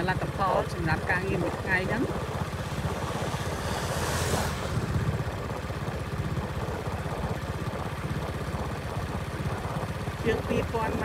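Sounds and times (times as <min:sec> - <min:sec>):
vehicle engine rumbling: 0:00.0 - 0:11.0
wind buffeting microphone: 0:00.0 - 0:11.0.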